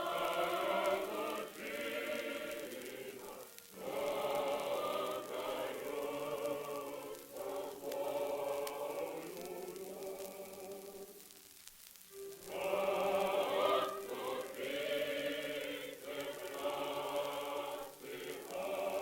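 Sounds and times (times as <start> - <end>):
unaccompanied choir singing: 0.0 - 11.2, 12.3 - 19.0.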